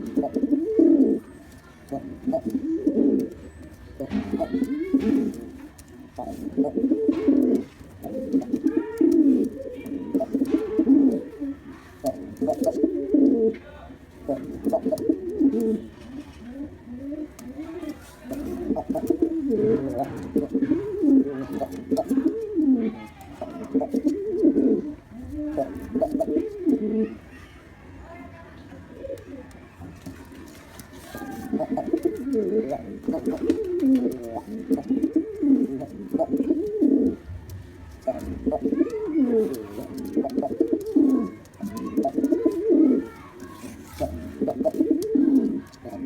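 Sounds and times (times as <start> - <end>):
pigeon cooing: 0.0 - 13.6, 14.2 - 27.2, 28.8 - 37.3, 37.9 - 46.0.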